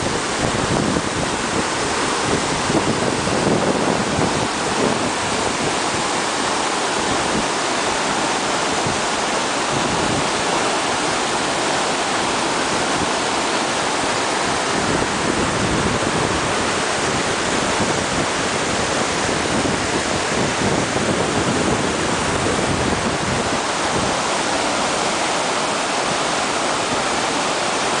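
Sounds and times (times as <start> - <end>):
rushing white water: 0.0 - 28.0.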